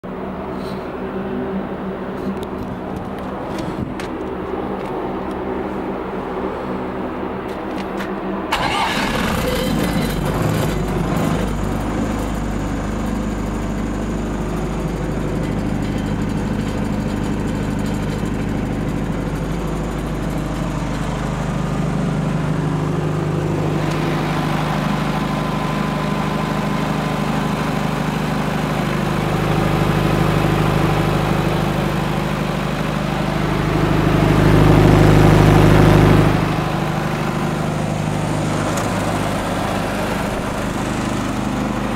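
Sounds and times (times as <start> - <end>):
diesel generator engine running: 0.0 - 41.9.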